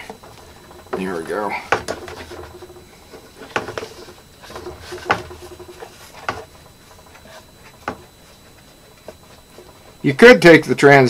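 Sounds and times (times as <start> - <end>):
light rubbing: 0.0 - 10.1.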